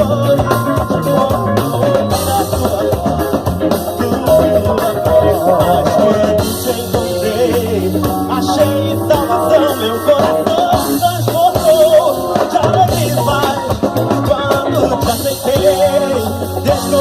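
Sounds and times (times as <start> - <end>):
band playing rock music: 0.0 - 17.0.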